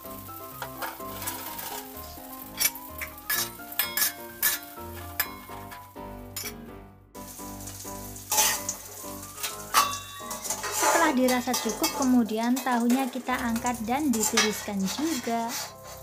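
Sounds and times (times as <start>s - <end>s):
tofu sizzling in oil: 0.0s - 5.8s, 7.2s - 16.0s
metal spatula scraping a wok: 0.6s - 5.8s, 7.3s - 16.0s.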